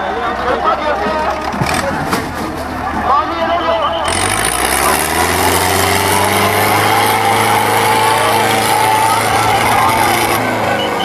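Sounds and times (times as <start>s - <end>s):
crowd shouting: 0.0s - 11.0s
tractor engines under heavy load: 0.0s - 11.0s.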